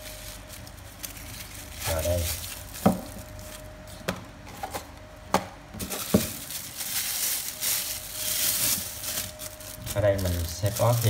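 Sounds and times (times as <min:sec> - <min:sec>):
plastic bag crinkling: 0:00.0 - 0:04.0, 0:05.8 - 0:11.0.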